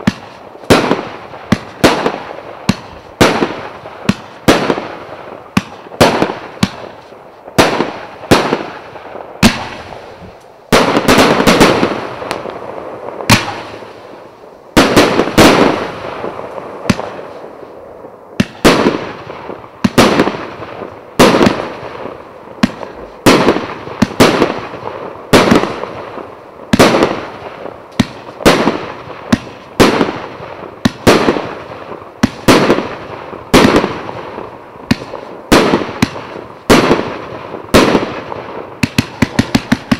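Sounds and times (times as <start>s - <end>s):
firework bangs with echo: 0.0s - 39.9s.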